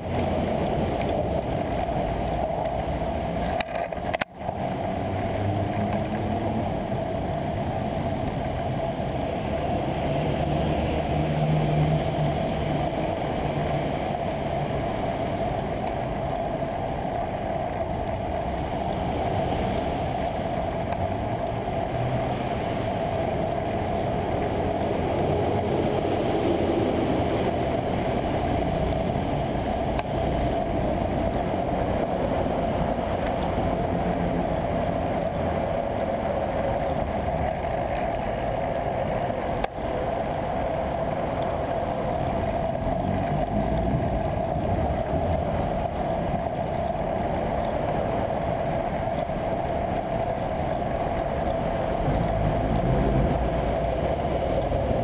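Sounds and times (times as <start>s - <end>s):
bicycle road noise: 0.0s - 55.0s
rushing wind: 0.0s - 55.0s.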